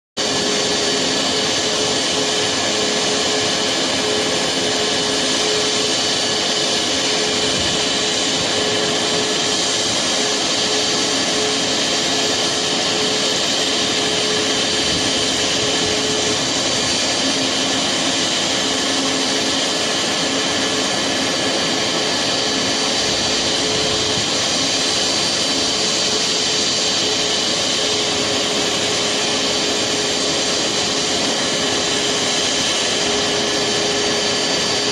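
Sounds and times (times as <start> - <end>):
jet engines running: 0.2 - 34.9.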